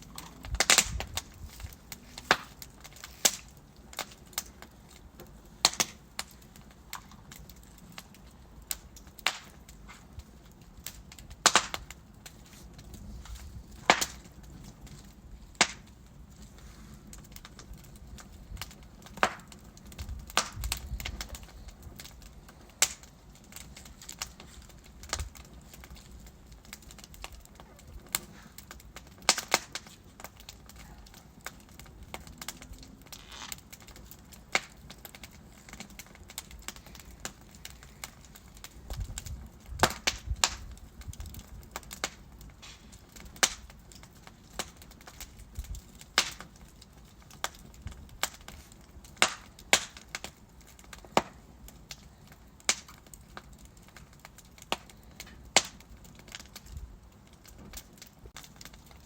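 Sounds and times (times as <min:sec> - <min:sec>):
burning logs popping and snapping: 0:00.0 - 0:59.0
rush of flame: 0:00.0 - 0:59.0.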